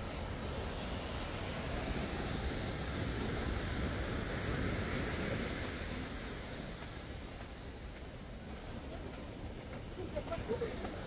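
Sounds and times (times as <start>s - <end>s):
ocean surf breaking on beach: 0.0s - 11.0s
wind rumbling on microphone: 0.0s - 11.0s.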